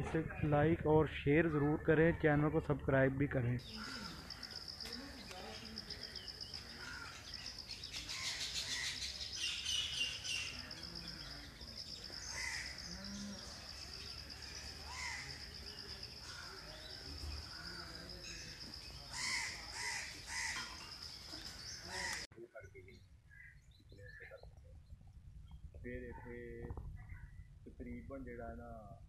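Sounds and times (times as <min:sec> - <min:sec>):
birds calling: 0:03.6 - 0:27.6.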